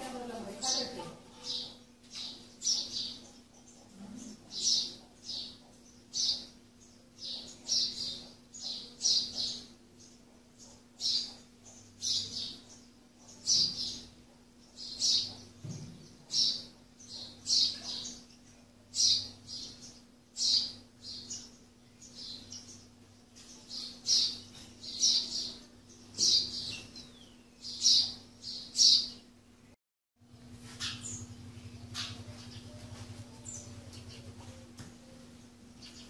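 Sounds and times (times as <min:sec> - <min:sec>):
sparrow chirping: 0:00.0 - 0:29.4, 0:30.7 - 0:36.0.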